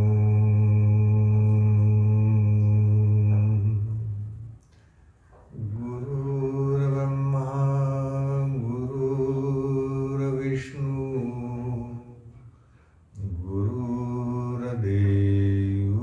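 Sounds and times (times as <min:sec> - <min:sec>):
man chanting: 0:00.0 - 0:04.5, 0:05.5 - 0:12.3, 0:13.2 - 0:16.0.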